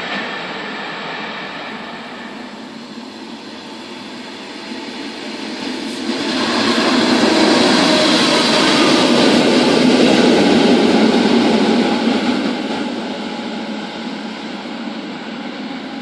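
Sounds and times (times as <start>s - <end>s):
electric locomotive passing: 0.0s - 16.0s.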